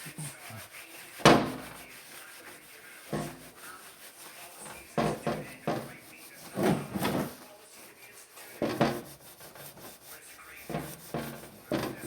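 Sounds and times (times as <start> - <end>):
hand scrubbing metal: 0.0 - 12.0.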